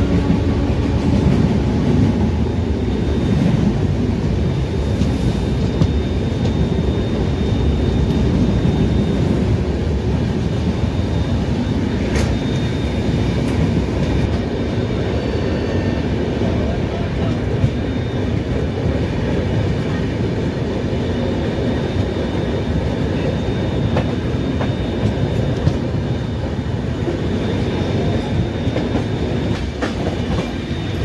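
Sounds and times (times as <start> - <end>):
wheels rumbling on rails: 0.0 - 31.0.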